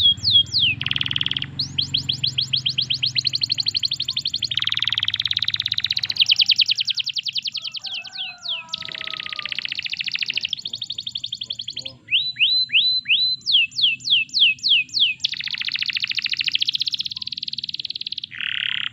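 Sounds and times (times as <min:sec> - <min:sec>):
canary singing trills: 0:00.0 - 0:18.9.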